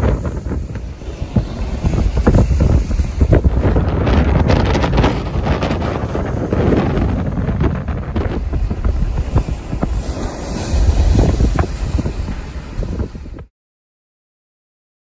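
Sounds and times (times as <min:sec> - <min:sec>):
storm wind buffeting microphone: 0:00.0 - 0:13.5
waves breaking against a wall: 0:00.0 - 0:13.5.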